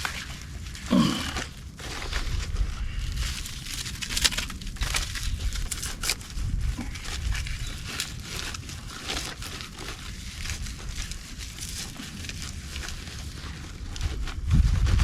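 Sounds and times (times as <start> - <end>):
dry bark crackling: 0.0 - 15.0.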